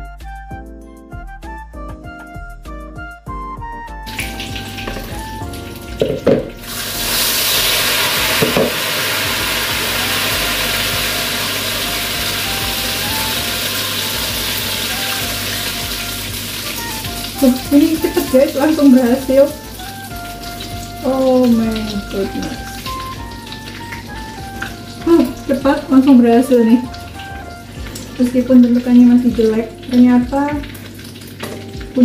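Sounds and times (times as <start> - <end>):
quiet background music: 0.0 - 32.0
egg frying in hot oil: 4.1 - 32.0.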